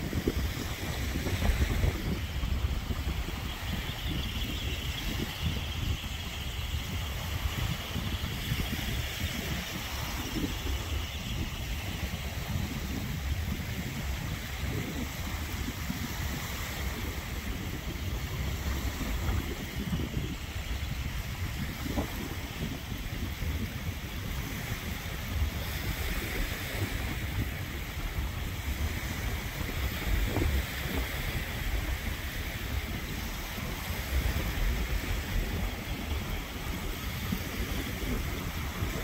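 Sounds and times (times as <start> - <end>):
small waves breaking on sand: 0.0 - 39.0
wind noise on microphone: 0.0 - 39.0.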